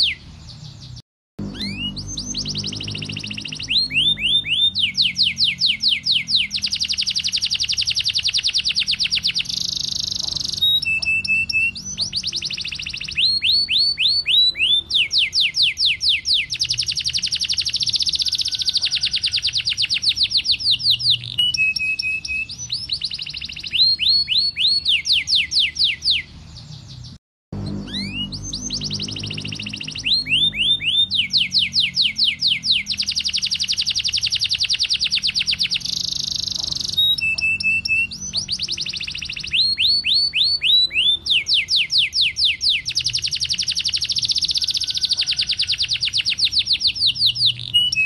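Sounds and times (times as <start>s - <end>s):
canary singing trills: 0.0s - 48.0s.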